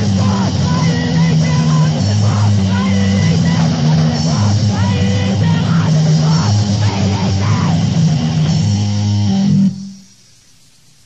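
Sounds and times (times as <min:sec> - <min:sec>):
distorted punk band: 0:00.0 - 0:10.1
faint tape hiss: 0:00.0 - 0:11.0.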